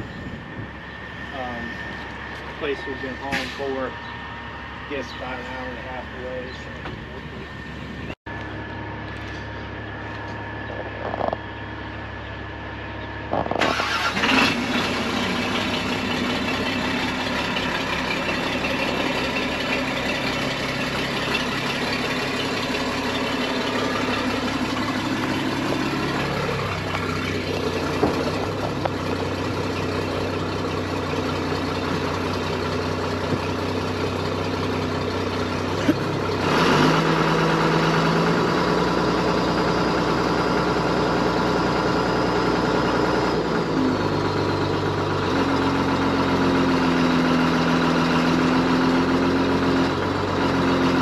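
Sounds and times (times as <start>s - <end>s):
diesel engine cranking and running: 0.0s - 51.0s.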